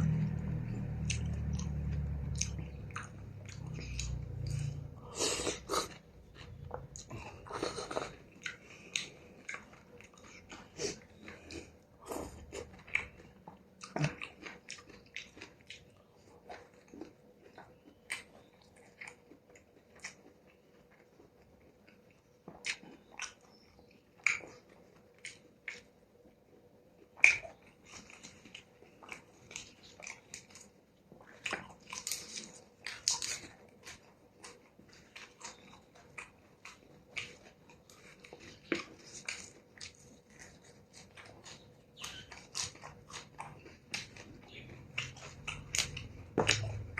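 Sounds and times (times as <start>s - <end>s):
chewing and mouth smacks: 0.0s - 46.9s.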